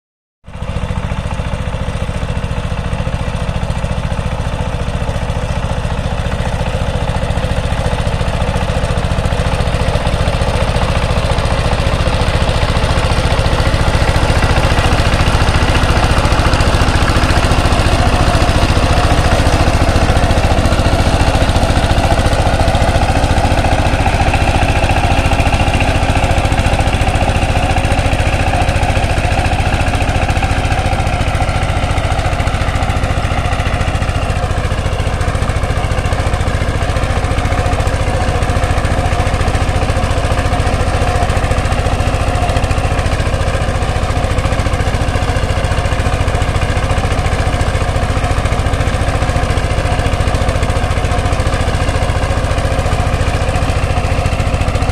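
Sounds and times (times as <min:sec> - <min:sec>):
diesel engine chugging: 0:00.5 - 0:54.9.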